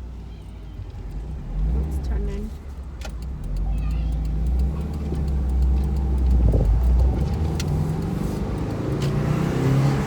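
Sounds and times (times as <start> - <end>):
car engine rumble from inside cabin: 0.0 - 10.0
road noise: 0.0 - 10.0.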